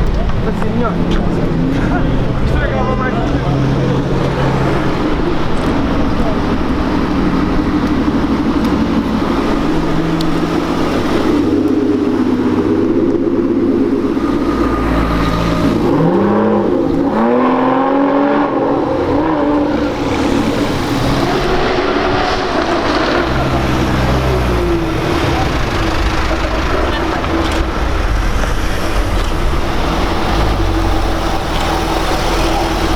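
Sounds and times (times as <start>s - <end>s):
sports car engine idling and revving: 0.0s - 32.9s.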